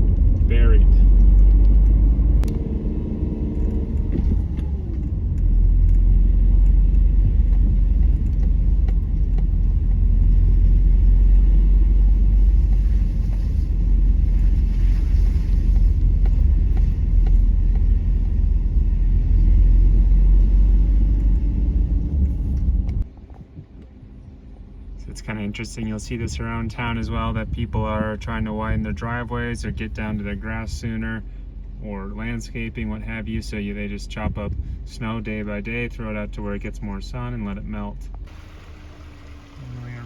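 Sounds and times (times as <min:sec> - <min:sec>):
car interior road rumble: 0:00.0 - 0:40.0.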